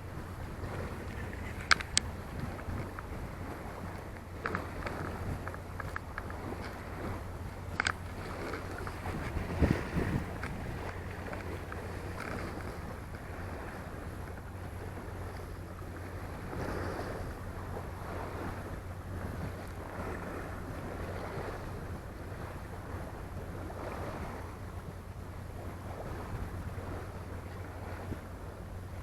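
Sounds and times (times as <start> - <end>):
sea waves washing: 0.0 - 29.0
steady low hum: 0.0 - 29.0
wind on microphone: 0.0 - 29.0.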